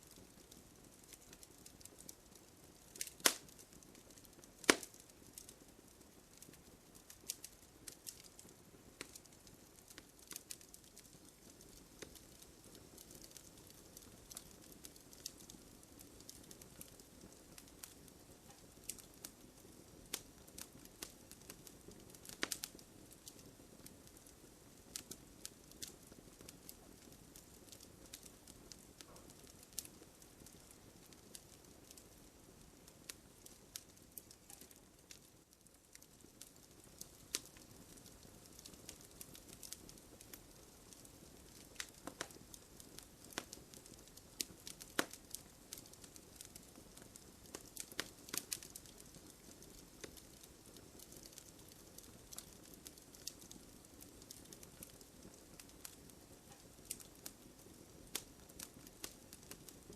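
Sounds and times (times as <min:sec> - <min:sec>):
campfire crackling and popping: 0:00.0 - 0:59.9
faint low hiss: 0:00.0 - 0:59.9.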